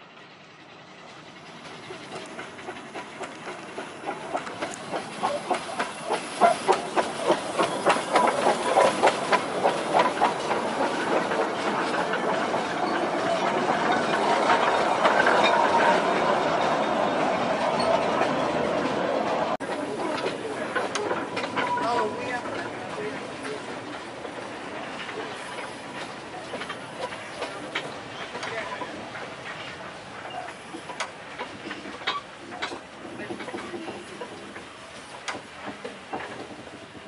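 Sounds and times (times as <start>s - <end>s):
steam locomotive passing: 0.0s - 37.0s
carriages rolling: 0.3s - 37.0s
steam hissing: 0.4s - 37.0s.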